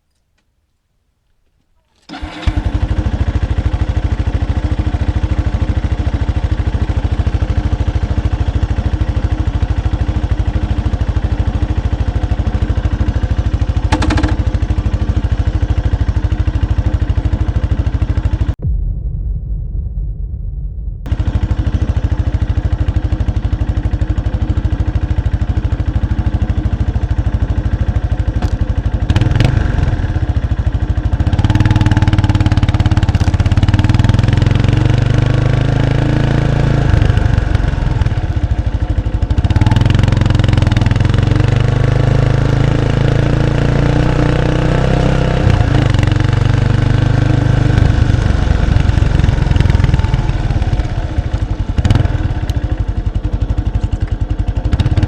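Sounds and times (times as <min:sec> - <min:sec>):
motorcycle exhaust: 0:02.1 - 0:55.0.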